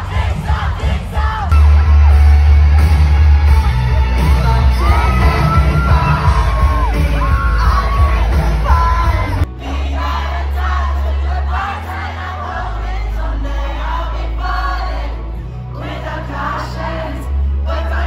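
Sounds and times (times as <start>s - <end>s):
heavy bass: 0.0s - 18.0s.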